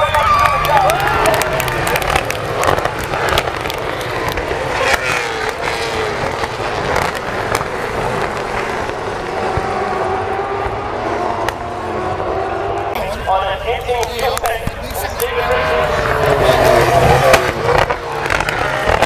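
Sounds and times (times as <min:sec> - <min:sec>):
race car engines passing by: 0:00.0 - 0:19.0.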